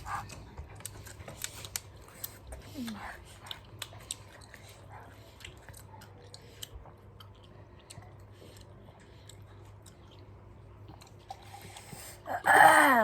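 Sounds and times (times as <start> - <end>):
chewing crisp cabbage: 0.0 - 12.2
low steady hum: 0.0 - 13.0.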